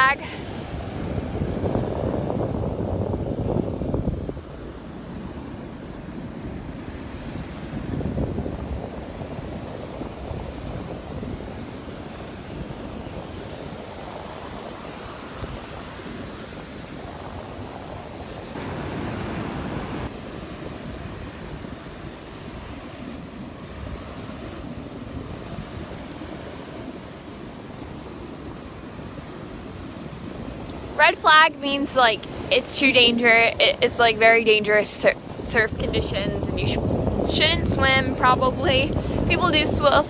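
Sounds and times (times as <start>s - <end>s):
surf breaking on beach: 0.0s - 40.0s
wind buffeting microphone: 0.0s - 40.0s.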